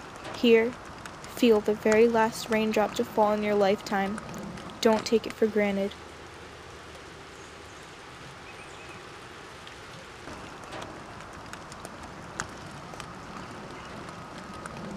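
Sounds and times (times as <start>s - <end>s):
raindrops ticking: 0.0s - 14.9s
rainfall hiss: 0.0s - 14.9s.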